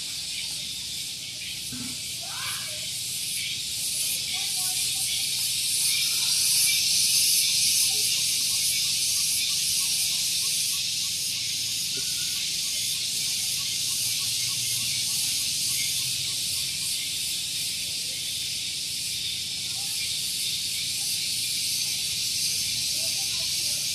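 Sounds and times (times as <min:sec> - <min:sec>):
cicadas singing: 0:00.0 - 0:23.9.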